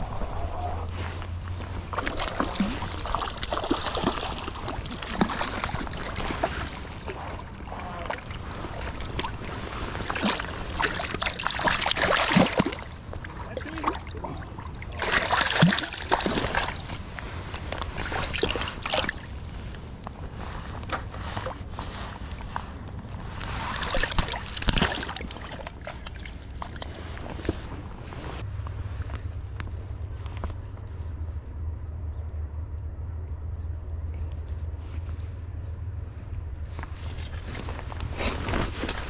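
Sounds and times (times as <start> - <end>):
water splashing and sloshing: 0.0 - 32.1, 34.1 - 39.0.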